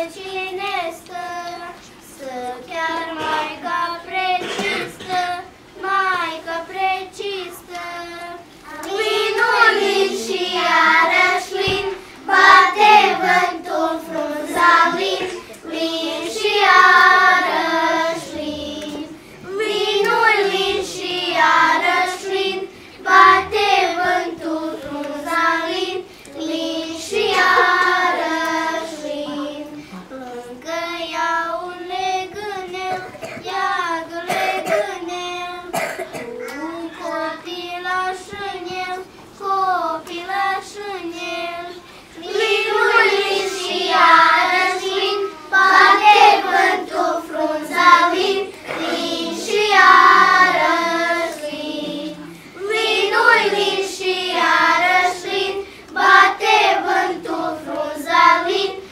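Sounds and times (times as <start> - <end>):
children's choir singing: 0.0 - 58.9.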